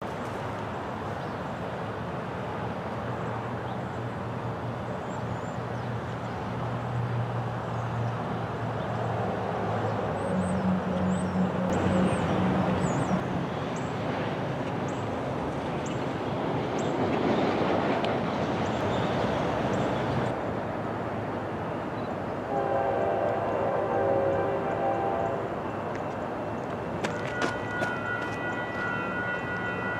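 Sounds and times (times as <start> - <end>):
train rumble with diesel hum: 0.1 - 29.9.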